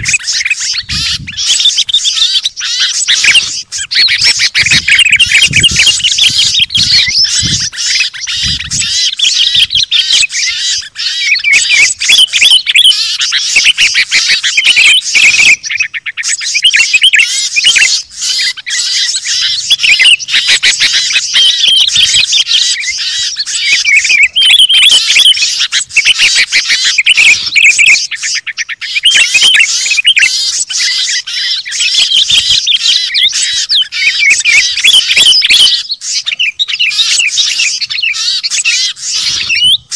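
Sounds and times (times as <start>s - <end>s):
fast rattling bird calls: 0.0s - 39.9s
songbirds chirping and trilling: 0.0s - 39.9s.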